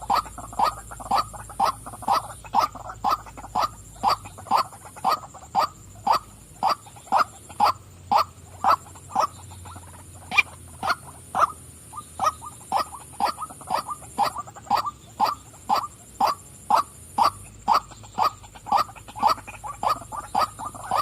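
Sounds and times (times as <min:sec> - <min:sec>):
waterhen calling short notes: 0:00.0 - 0:21.0.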